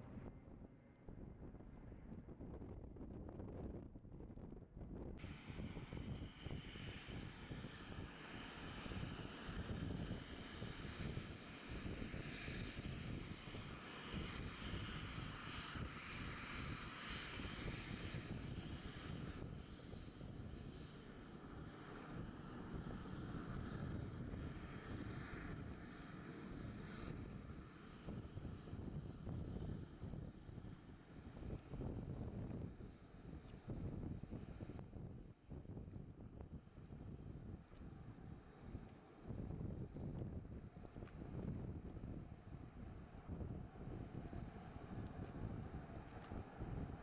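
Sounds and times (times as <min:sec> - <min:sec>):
jet engines rumbling with whine: 0:00.0 - 0:47.0.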